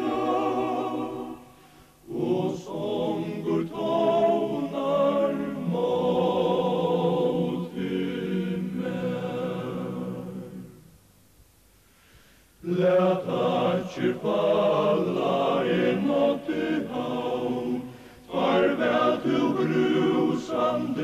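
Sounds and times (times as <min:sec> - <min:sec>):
men singing a hymn in harmony: 0:00.0 - 0:10.7, 0:12.6 - 0:21.0.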